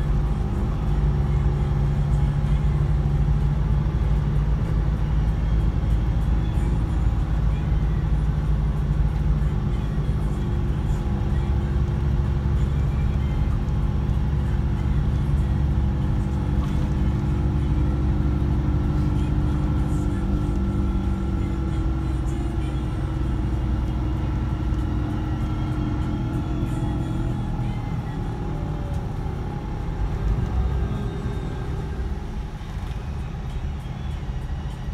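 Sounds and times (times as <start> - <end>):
coach engine droning: 0.0 - 34.9
road rumble: 0.0 - 34.9.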